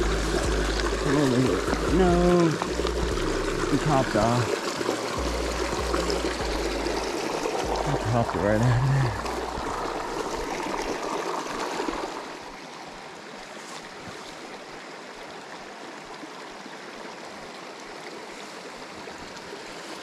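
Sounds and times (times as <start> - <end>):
creek trickling over stones: 0.0 - 20.0.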